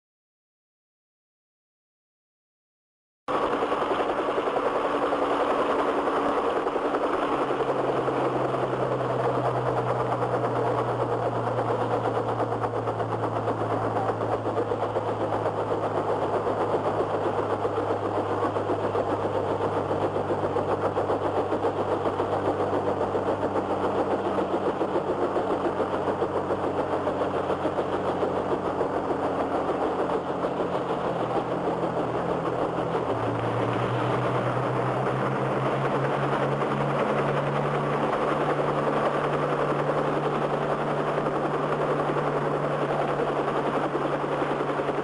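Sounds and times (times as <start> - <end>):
helicopter engine and rotors: 3.3 - 45.0
low hum: 3.3 - 45.0.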